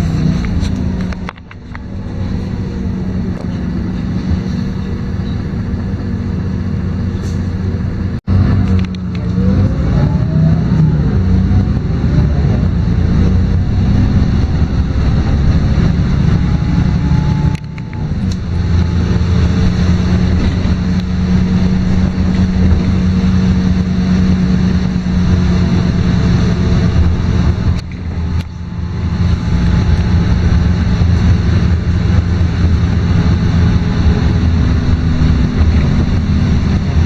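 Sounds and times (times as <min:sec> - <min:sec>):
bus engine drone: 0:00.0 - 0:37.0
road noise: 0:00.0 - 0:37.0.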